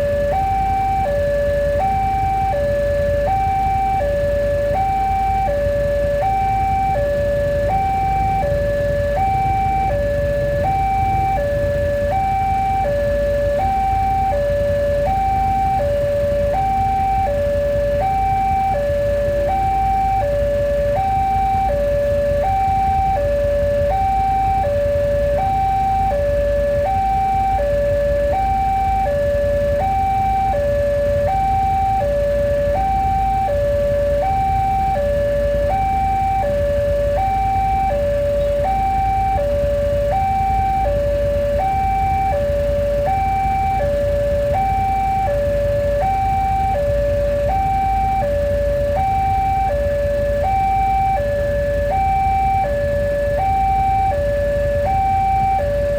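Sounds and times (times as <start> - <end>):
level crossing two-tone alarm: 0.0 - 55.9.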